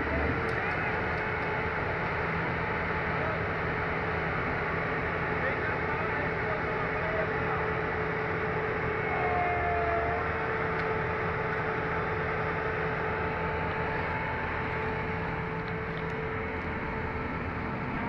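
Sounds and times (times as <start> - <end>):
constant whine: 0.0 - 18.0
excavator diesel engine: 0.0 - 18.0.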